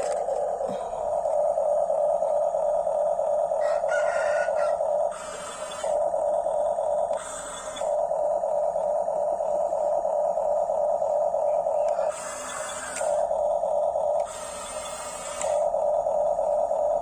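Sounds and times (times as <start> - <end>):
toy motors and gearboxes whining: 0.0 - 17.0.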